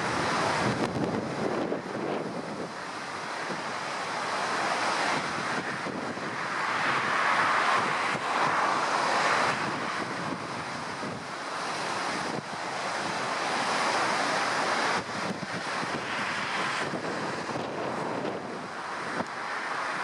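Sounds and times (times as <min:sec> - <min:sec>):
surf breaking and washing: 0:00.0 - 0:20.0
wind buffeting microphone: 0:00.0 - 0:20.0.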